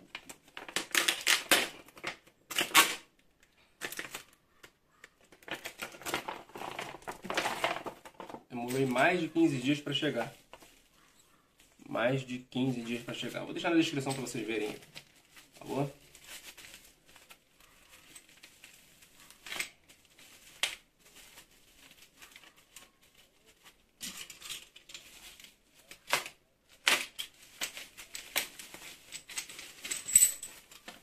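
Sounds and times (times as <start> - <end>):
bubble wrap crinkling: 3.8 - 31.0.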